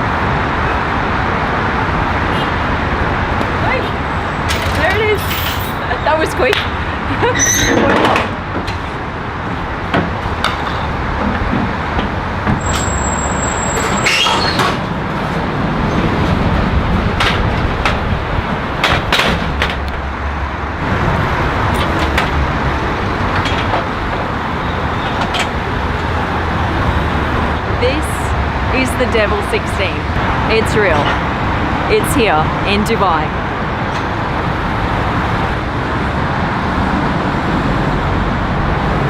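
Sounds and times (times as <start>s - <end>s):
street noise: 0.0s - 39.0s.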